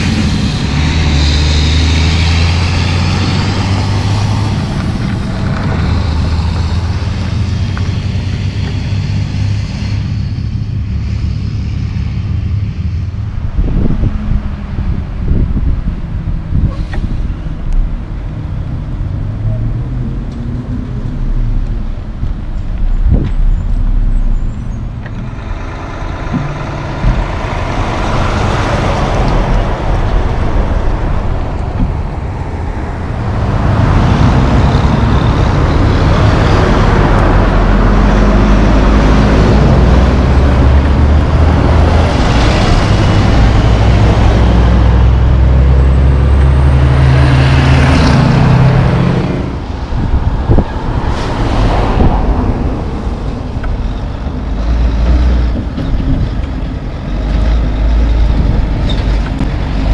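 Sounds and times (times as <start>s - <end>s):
diesel trucks passing: 0.0s - 59.9s
road traffic: 0.0s - 59.9s
truck engine droning: 0.0s - 59.9s.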